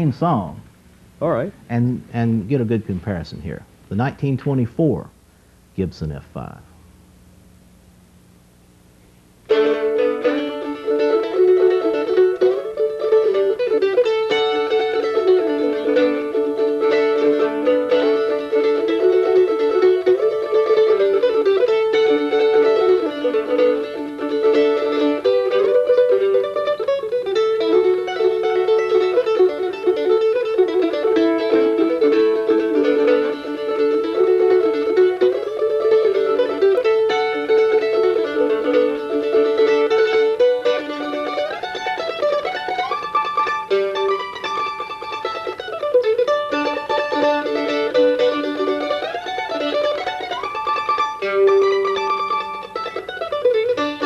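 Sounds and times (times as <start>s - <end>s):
mandolin melody: 0.0s - 5.1s, 9.5s - 54.0s.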